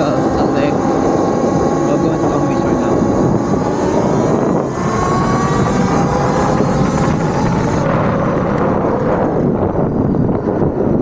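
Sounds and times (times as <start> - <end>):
electric motor whine: 0.0 - 11.0
road noise of dirt bike: 0.0 - 11.0
wind buffeting microphone: 0.0 - 11.0.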